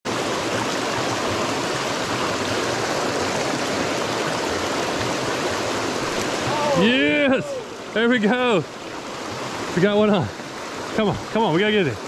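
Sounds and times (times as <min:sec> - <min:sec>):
creek pouring over rocks: 0:00.1 - 0:12.0.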